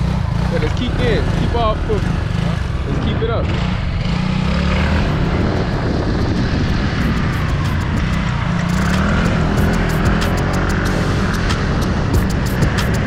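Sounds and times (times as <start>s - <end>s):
motor scooter engine droning: 0.0s - 13.0s.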